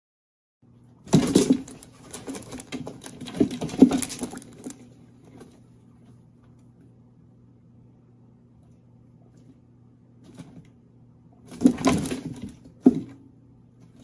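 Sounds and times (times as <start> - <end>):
faint low hum: 0.6 - 14.0.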